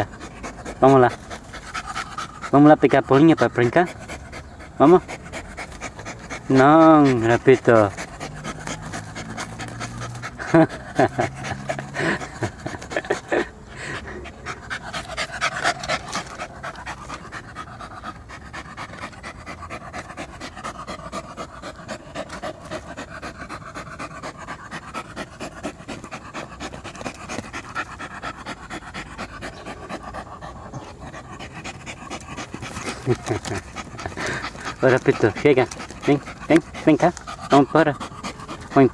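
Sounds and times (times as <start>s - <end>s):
dog panting: 0.0s - 38.9s.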